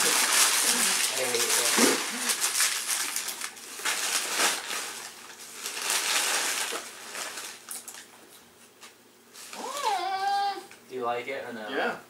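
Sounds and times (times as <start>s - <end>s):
wrapping paper crinkling: 0.0s - 9.9s.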